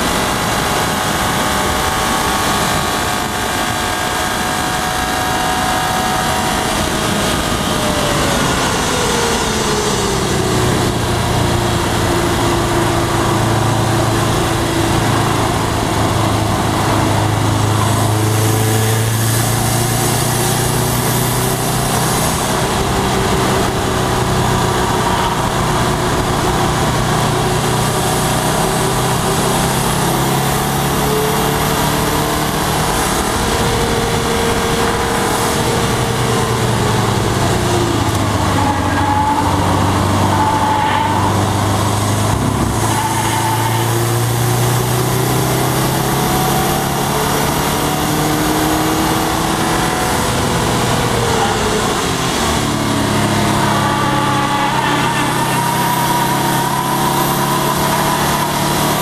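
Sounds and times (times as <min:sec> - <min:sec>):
turbocharged car engine running hard: 0:00.0 - 0:59.0
wind and tyre noise: 0:00.0 - 0:59.0.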